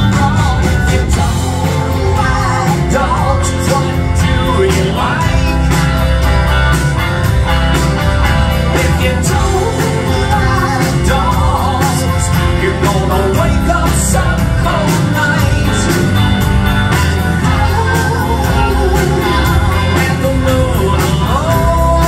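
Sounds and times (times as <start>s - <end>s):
drum kit: 0.0s - 22.0s
electric bass guitar: 0.0s - 22.0s
electric guitars: 0.0s - 22.0s.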